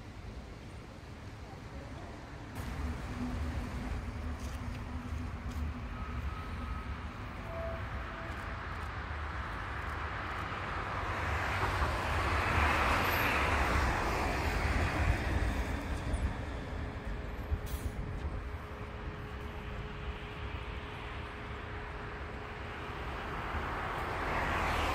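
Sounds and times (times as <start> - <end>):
tram rolling: 0.0 - 24.9.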